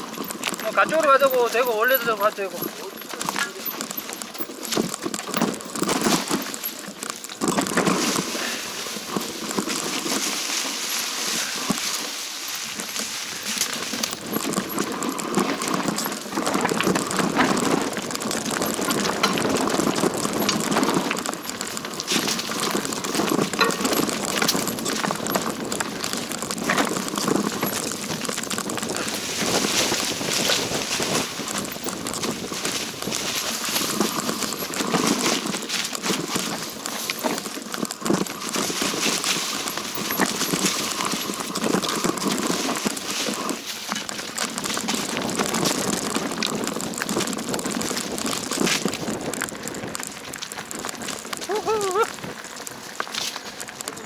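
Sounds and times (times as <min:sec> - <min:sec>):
footsteps crunching on trail: 0:00.0 - 0:54.0.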